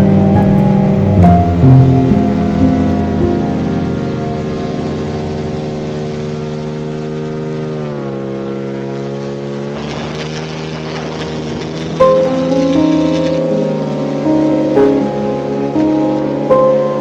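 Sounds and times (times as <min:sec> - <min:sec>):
paramotor engine running: 0:00.0 - 0:17.0.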